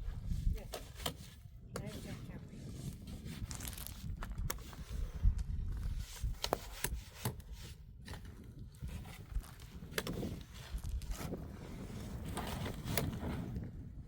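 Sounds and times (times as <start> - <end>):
wind rumble on microphone: 0.0 - 14.0
sharp knocks and scrapes: 0.2 - 5.2, 5.8 - 13.6.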